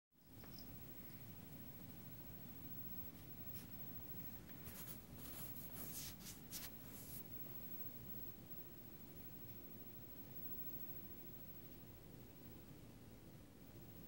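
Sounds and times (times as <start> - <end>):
low room hum: 0.2 - 14.0.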